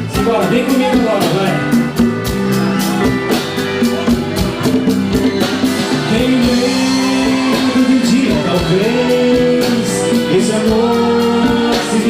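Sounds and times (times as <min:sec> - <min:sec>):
drum kit steady beat: 0:00.0 - 0:12.0
live band playing instrumental: 0:00.0 - 0:12.0.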